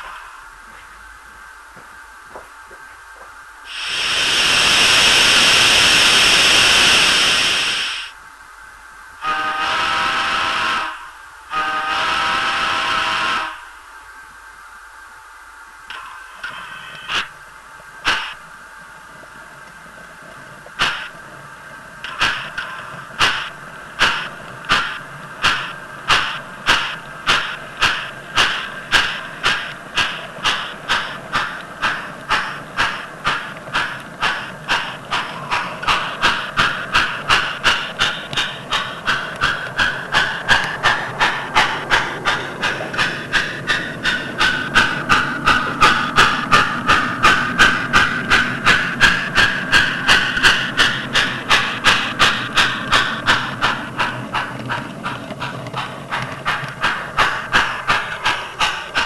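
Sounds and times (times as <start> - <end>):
model locomotive steam chuffs: 0.0 - 1.5, 3.5 - 8.2, 9.2 - 14.0, 15.0 - 59.0.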